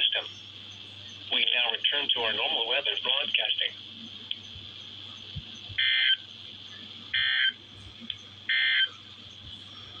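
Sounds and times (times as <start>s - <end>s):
buzzy digital data tone bursts: 0.0s - 9.4s
radio static hiss: 0.0s - 10.0s.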